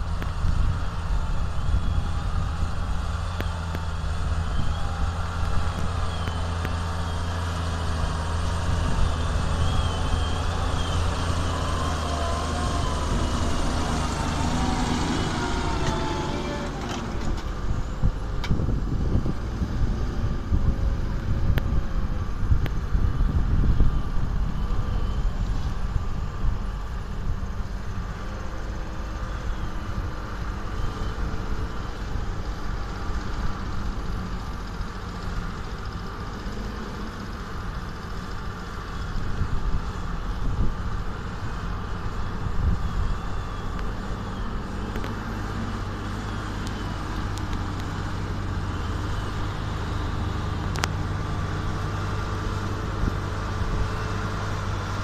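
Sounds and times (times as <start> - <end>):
tractor engine rumbling: 0.0 - 55.0.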